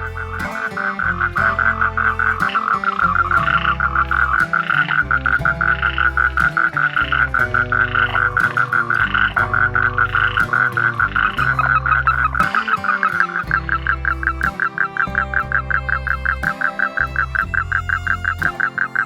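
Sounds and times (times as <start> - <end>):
toad calling in a pulsed trill: 0.0 - 18.3
guitar-like background music: 0.0 - 19.0.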